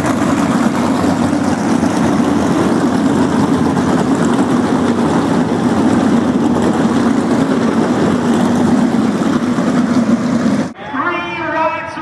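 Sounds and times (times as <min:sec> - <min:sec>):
race car engine running: 0:00.0 - 0:10.8.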